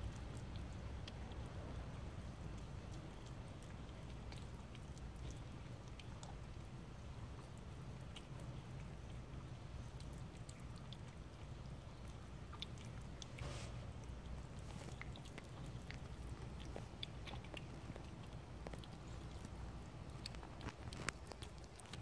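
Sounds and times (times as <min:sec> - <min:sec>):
cat chewing and smacking: 0:00.0 - 0:22.0
low steady hum: 0:00.0 - 0:22.0.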